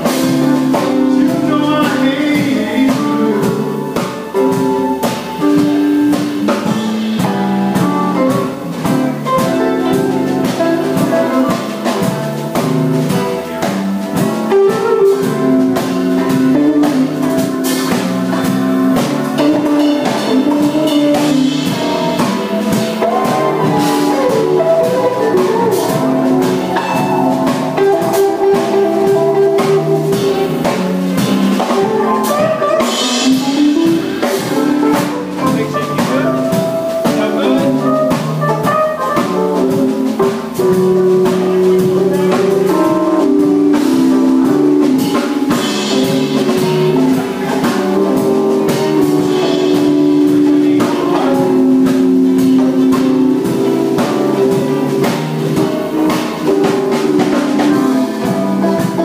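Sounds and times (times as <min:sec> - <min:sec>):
music with drum kit: 0:00.0 - 0:59.0.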